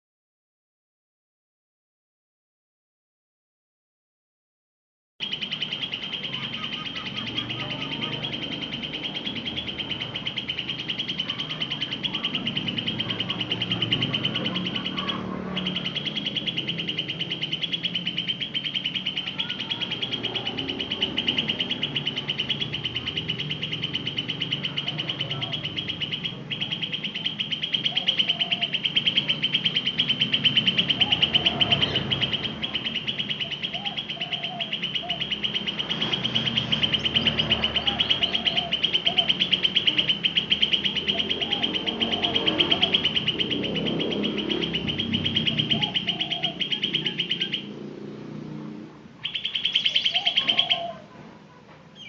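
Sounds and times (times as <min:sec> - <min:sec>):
bird singing rapid high trill: 0:05.2 - 0:48.6, 0:49.2 - 0:51.1.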